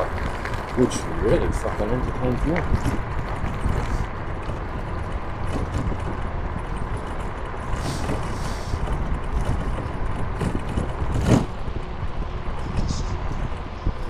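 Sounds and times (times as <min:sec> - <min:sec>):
faint thin whine: 0:00.0 - 0:14.0
wind and road noise: 0:00.0 - 0:14.0.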